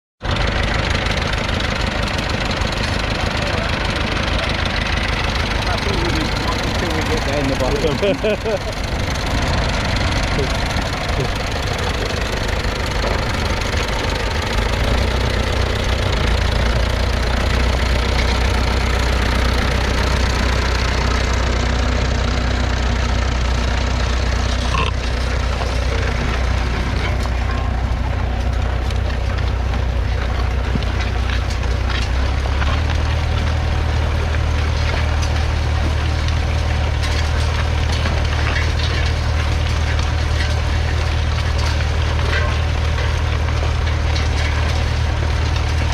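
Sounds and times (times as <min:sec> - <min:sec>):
diesel tractor engine running: 0:00.2 - 0:45.9.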